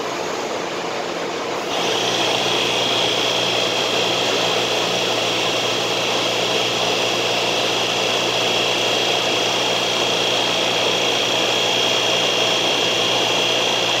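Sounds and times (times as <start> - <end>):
high-pitched whine: 0.0 - 14.0
train equipment whirring: 1.5 - 14.0.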